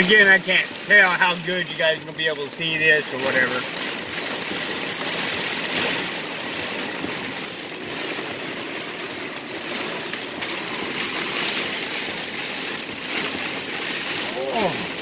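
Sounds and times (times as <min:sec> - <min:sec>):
heavy rain on car roof: 0:00.0 - 0:15.0.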